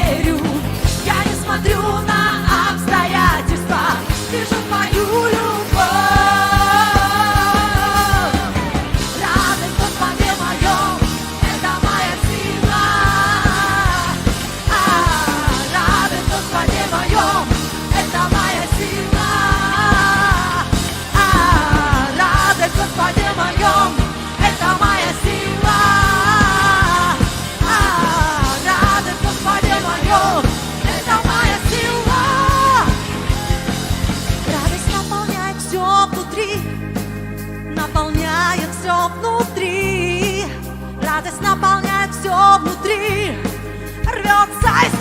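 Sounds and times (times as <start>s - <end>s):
drums beating steadily: 0.0s - 39.7s, 40.3s - 45.0s
rock worship band music: 0.0s - 45.0s.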